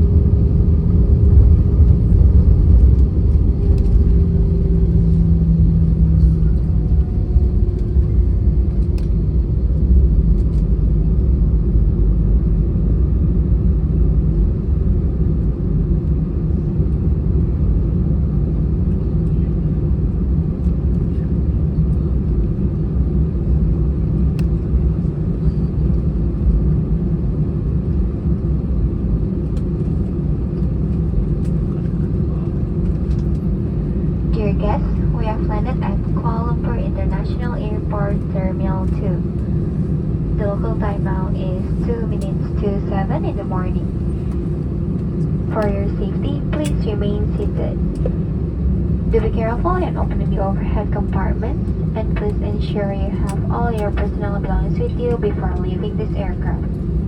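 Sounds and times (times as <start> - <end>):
engine rumble in cabin: 0.0 - 57.0.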